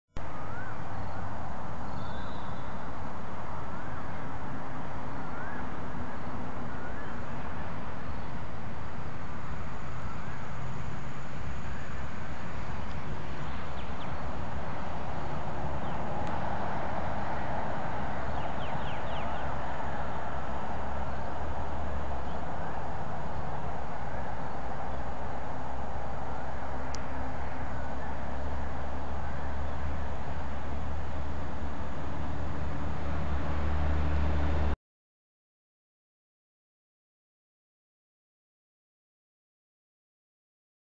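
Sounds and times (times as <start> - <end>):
low rumbling outdoor noise: 0.2 - 34.8.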